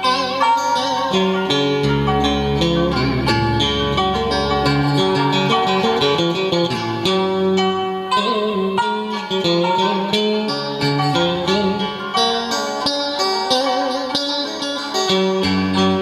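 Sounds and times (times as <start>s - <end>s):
guitar picking a melody: 0.0s - 16.0s
plucked string accompaniment: 0.0s - 16.0s.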